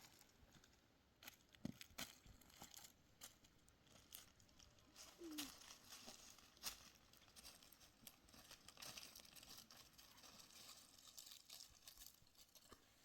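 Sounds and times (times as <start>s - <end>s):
faint crackles and rustles: 0.0s - 13.0s.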